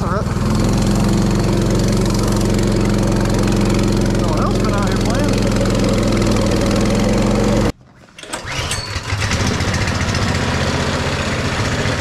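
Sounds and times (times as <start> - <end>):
mini bike engine running: 0.0 - 7.7, 8.3 - 12.0
small engine lumpy pulsing: 0.0 - 12.0.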